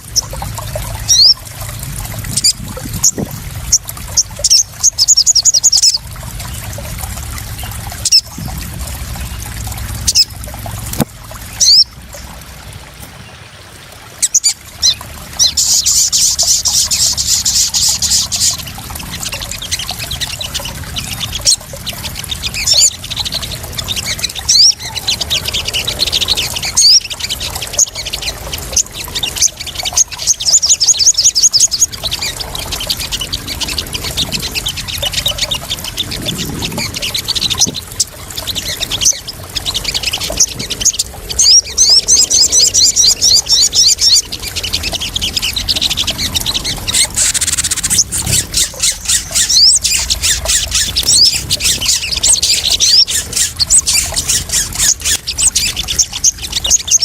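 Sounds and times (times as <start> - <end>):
small birds chirping and trilling: 0.0 - 57.0
water trickling and splashing: 0.0 - 57.0.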